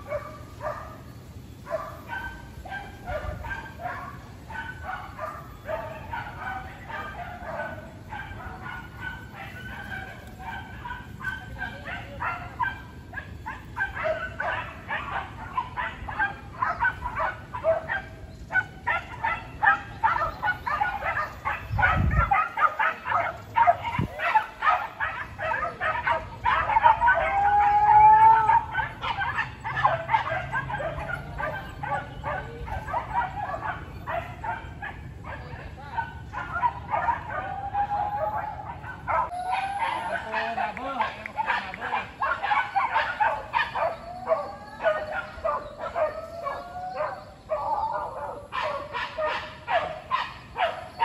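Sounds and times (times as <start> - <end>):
dogs barking and yelping: 0.0 - 51.0
dog howling: 3.1 - 51.0.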